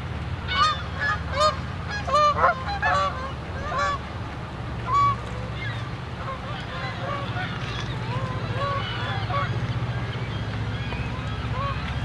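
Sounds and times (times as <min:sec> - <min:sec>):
geese honking: 0:00.4 - 0:04.1, 0:04.8 - 0:12.0.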